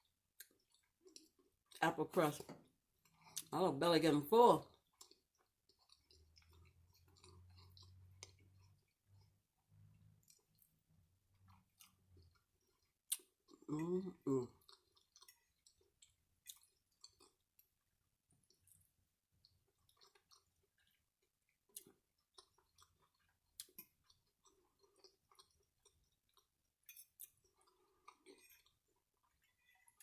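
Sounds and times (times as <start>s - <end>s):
person chewing food: 0.0s - 1.8s, 2.6s - 3.5s, 4.7s - 30.0s.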